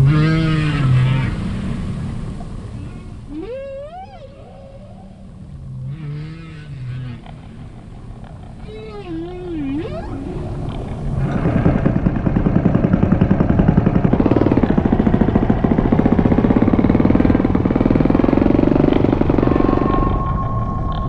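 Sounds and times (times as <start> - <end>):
engine-like mechanical throbbing: 0.0 - 21.0.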